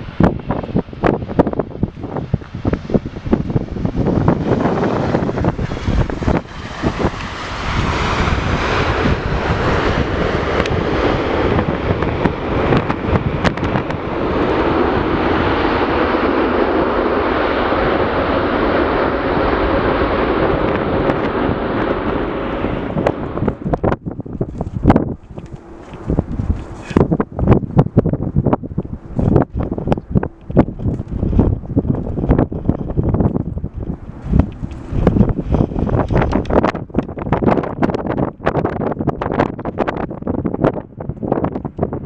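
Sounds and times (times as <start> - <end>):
jet engine rushing: 0.0 - 42.0
wind buffeting microphone: 0.0 - 42.0.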